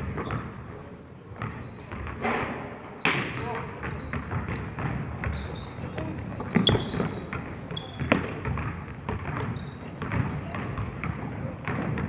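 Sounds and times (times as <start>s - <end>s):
basketball bouncing on wooden floor: 0.0s - 0.6s, 1.4s - 2.2s, 3.0s - 12.0s
sneakers squeaking: 0.0s - 12.0s.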